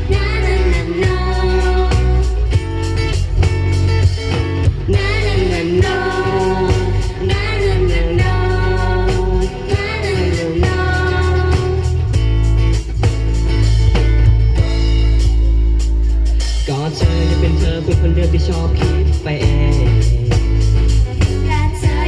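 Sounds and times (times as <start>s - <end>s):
pop song with singing: 0.0s - 3.5s, 4.2s - 12.8s, 16.1s - 22.0s.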